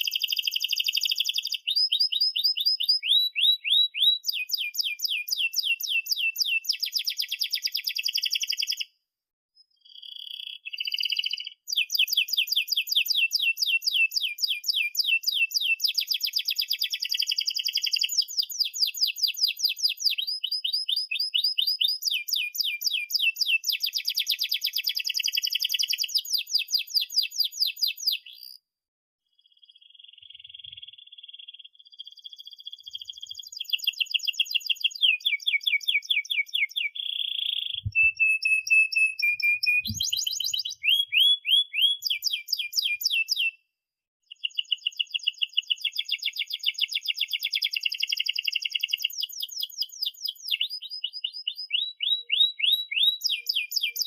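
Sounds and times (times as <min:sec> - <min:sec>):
canary singing trills: 0:00.0 - 0:08.9, 0:09.6 - 0:28.6, 0:29.4 - 0:43.6, 0:44.3 - 0:54.0.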